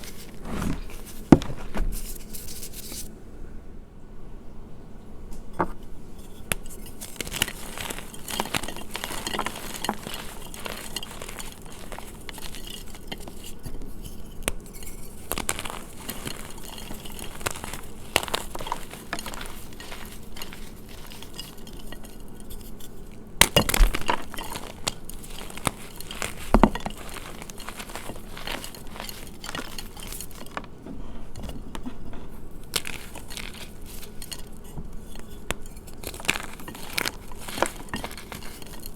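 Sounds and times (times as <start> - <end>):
chalk blocks crunching: 6.6 - 38.9.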